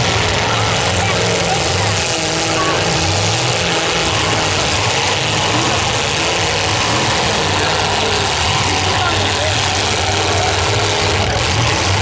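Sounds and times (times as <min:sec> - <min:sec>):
car engines running loud: 0:00.0 - 0:12.0.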